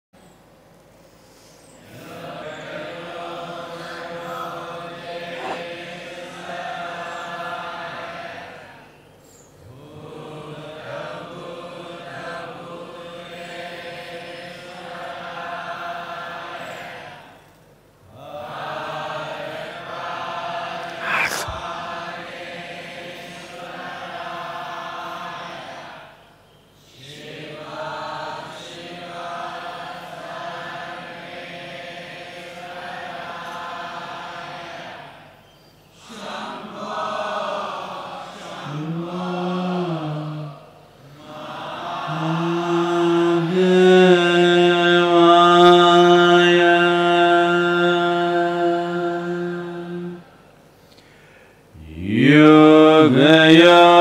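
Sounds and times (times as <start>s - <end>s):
slow devotional chanting: 0.2s - 54.0s.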